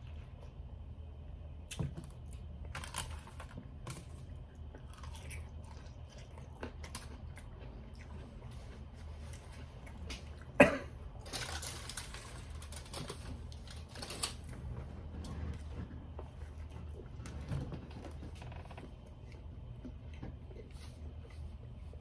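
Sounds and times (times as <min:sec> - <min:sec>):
chewing and crunching food: 0:01.6 - 0:22.0.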